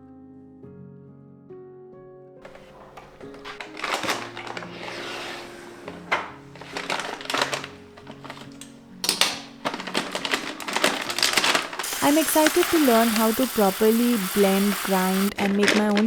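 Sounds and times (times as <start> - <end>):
soft background music: 0.0 - 16.0
kitchen items rustling and clattering: 2.4 - 16.0.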